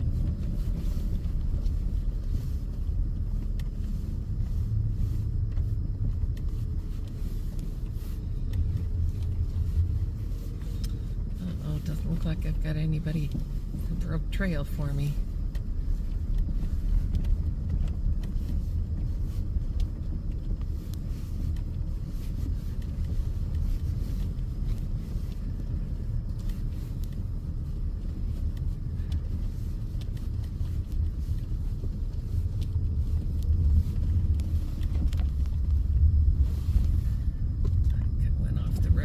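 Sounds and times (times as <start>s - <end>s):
car cabin rumble in snow: 0.0s - 39.0s.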